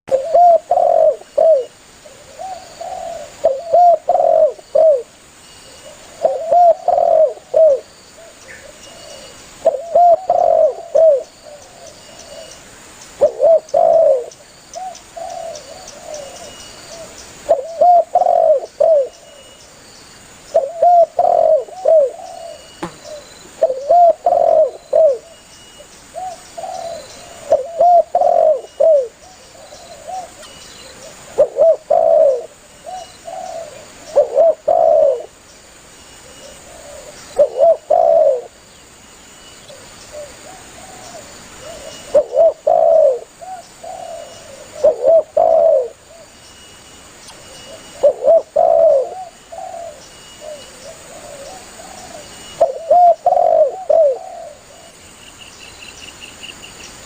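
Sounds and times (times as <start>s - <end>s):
dove cooing: 0.1s - 5.1s, 5.7s - 12.6s, 13.2s - 19.2s, 20.5s - 25.4s, 26.2s - 35.3s, 36.2s - 38.6s, 39.6s - 46.3s, 47.5s - 55.0s.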